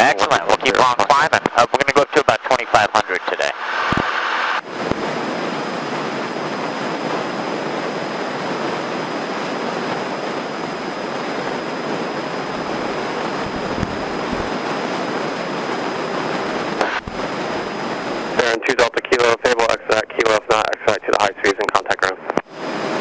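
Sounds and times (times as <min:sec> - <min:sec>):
airplane cabin airflow and engine: 0:00.0 - 0:23.0.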